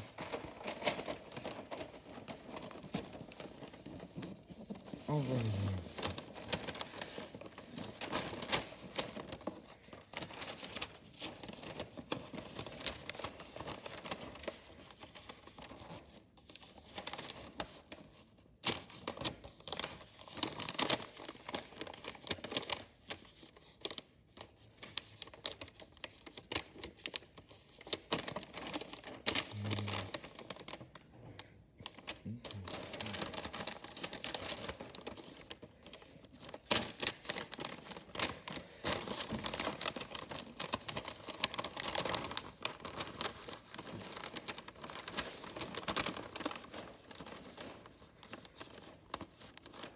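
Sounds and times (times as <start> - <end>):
wrapping paper crinkling: 0.0 - 49.9.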